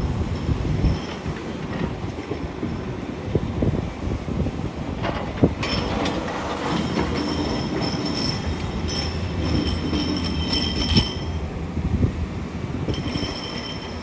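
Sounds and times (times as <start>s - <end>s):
excavator diesel engine rumble: 0.0s - 14.0s.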